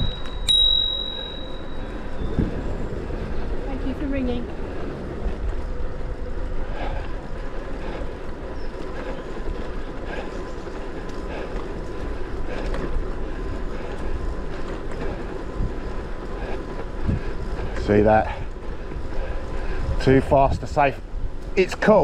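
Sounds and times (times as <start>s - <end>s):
wind on microphone: 0.0s - 10.8s, 11.7s - 21.5s
bike tyres rolling on path: 0.0s - 22.0s.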